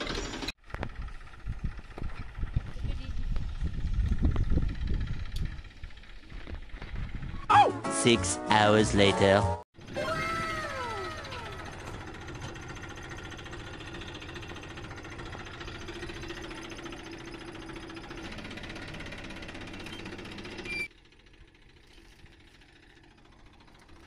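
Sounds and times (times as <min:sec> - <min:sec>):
tractor diesel engine clattering: 0:00.0 - 0:07.3, 0:11.3 - 0:24.0.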